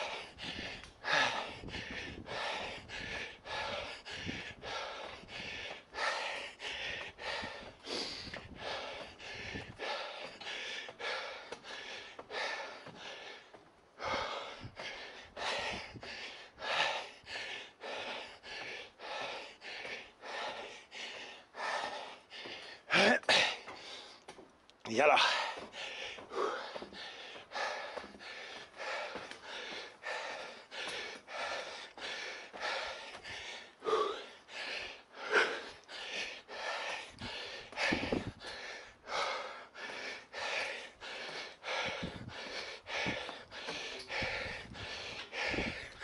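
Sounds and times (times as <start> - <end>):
man breathing hard: 0.0 - 24.4, 25.0 - 46.0.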